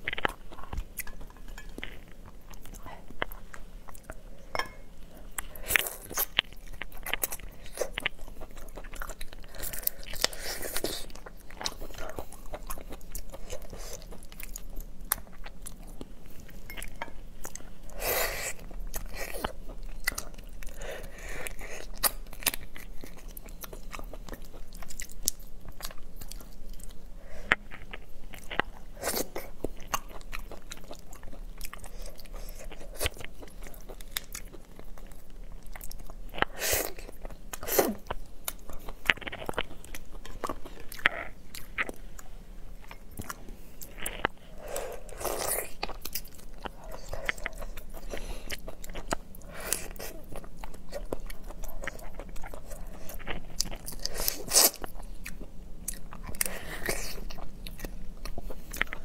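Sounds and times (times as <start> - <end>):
crunchy chewing: 5.0 - 59.0.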